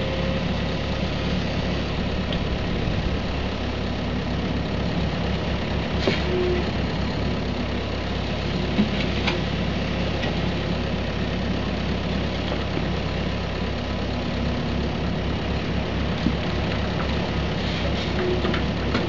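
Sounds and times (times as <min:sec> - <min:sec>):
excavator digging: 0:00.0 - 0:07.6, 0:08.2 - 0:13.3, 0:15.0 - 0:19.0
diesel engines running: 0:00.0 - 0:19.0.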